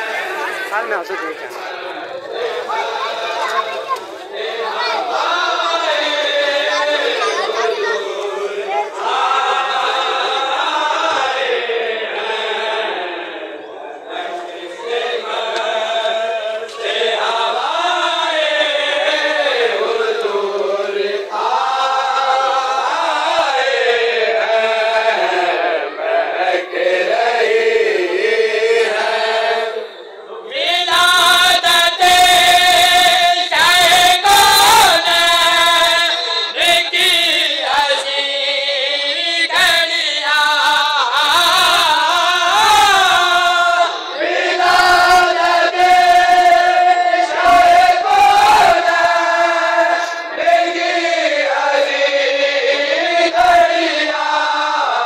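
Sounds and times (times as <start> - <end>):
men chanting: 0.0 - 55.0.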